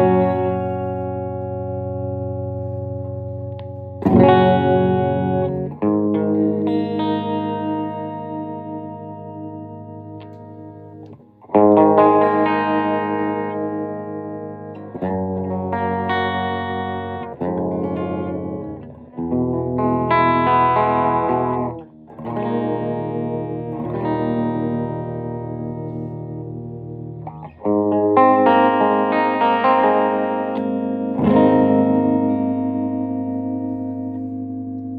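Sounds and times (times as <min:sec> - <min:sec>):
electric guitar strummed chords: 0:00.0 - 0:34.9.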